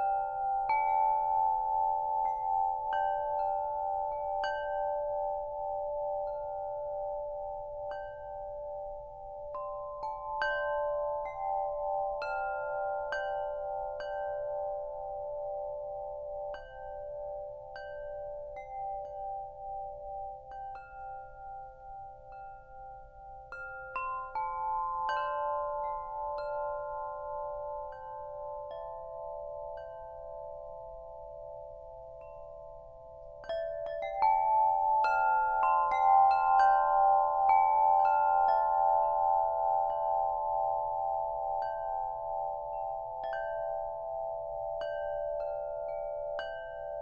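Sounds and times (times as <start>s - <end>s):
tubular wind chime ringing: 0.0s - 47.0s.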